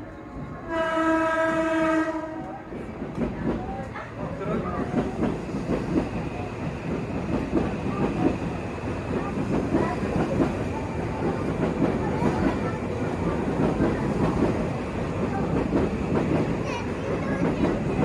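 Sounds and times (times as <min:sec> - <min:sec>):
electric trains running: 0:02.6 - 0:18.0.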